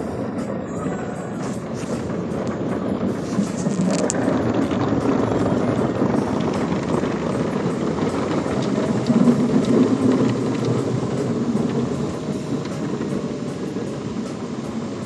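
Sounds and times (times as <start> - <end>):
car wash water jets roaring: 0.0 - 15.0.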